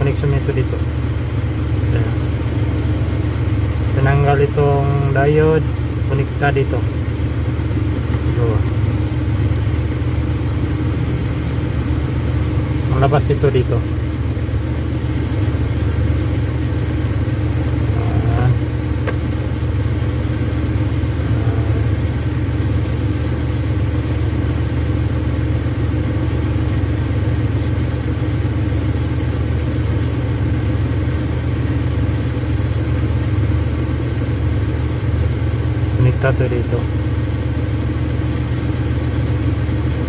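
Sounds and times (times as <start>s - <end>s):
machine humming: 0.0s - 40.0s.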